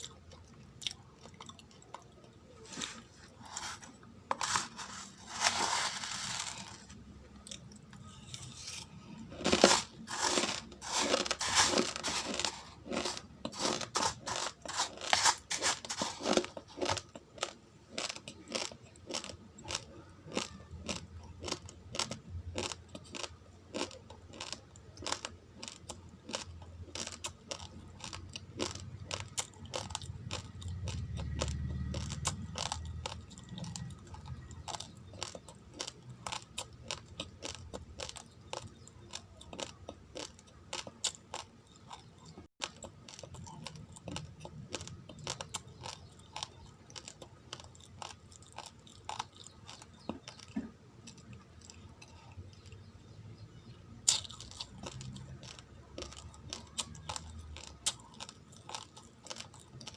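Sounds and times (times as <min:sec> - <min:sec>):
person chewing raw rice: 0:00.0 - 0:52.9, 0:53.6 - 0:59.9.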